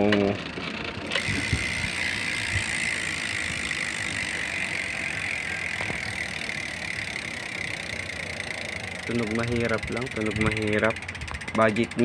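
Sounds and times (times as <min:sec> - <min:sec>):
bicycle freewheel ratchet clicking: 0:00.0 - 0:12.0.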